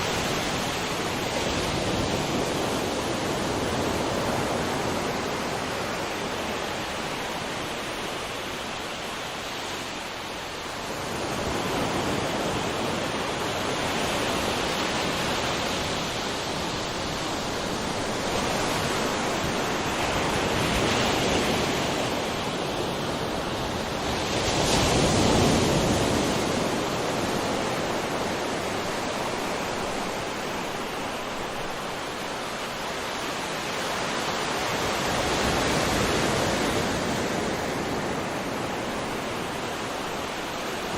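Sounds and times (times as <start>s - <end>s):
sea waves breaking on shore: 0.0s - 40.9s.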